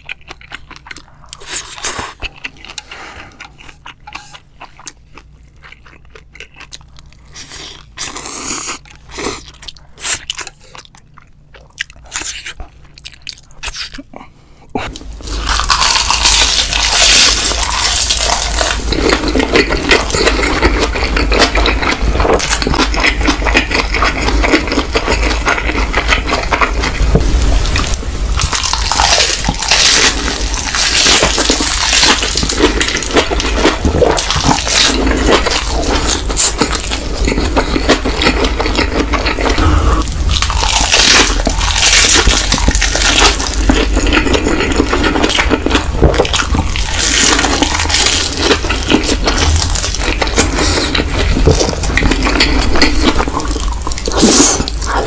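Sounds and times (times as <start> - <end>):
man slurping and chewing: 0.0 - 14.2, 14.8 - 55.0.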